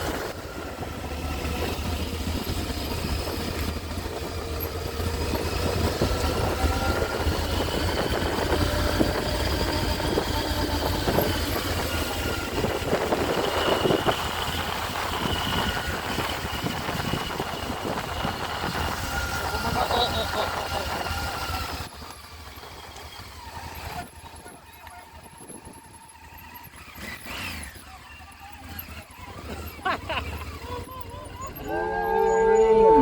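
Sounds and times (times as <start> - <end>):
motorcycle engine running: 0.0 - 32.7.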